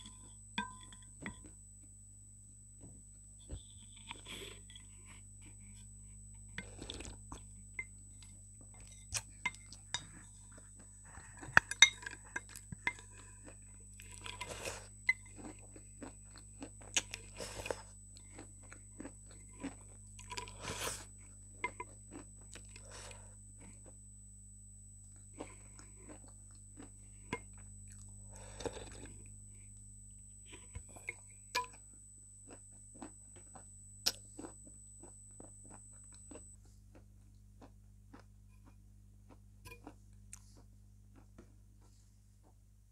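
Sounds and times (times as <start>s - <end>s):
crunching and chewing: 3.5s - 7.5s, 8.2s - 24.0s, 25.1s - 29.4s, 30.5s - 42.6s.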